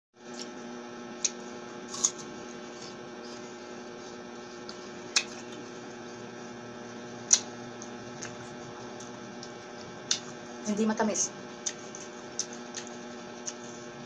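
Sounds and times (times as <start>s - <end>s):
apple crunching: 0.2s - 10.4s, 11.5s - 14.0s
electrical hum: 0.2s - 14.0s.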